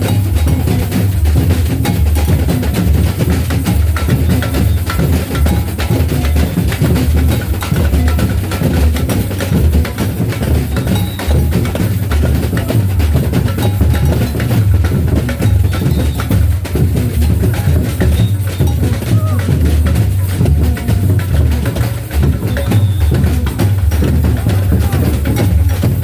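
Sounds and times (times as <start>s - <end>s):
clacking wood-block strokes: 0.0s - 26.0s
heavy bass-drum beat: 0.0s - 26.0s
percussion-driven music: 0.0s - 26.0s.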